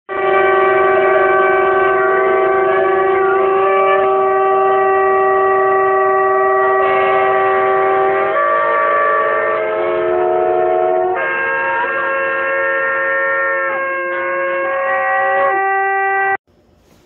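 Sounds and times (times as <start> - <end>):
steady horn note: 0.1 - 16.4
wavering horn note: 0.1 - 16.4.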